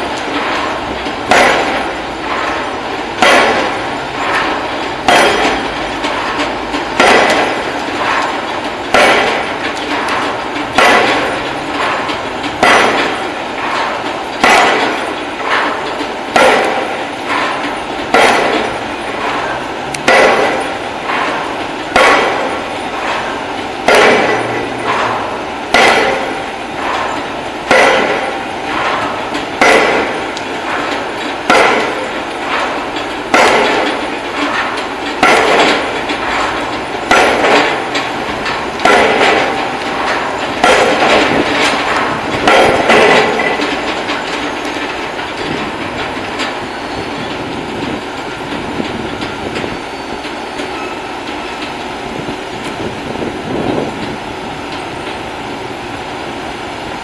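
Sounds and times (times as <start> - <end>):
drop hammer pounding pile: 0.0 - 51.4.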